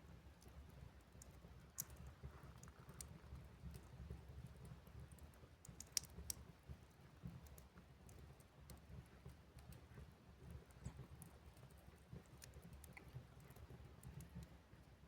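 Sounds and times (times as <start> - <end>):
wood fire crackling: 0.3 - 14.5.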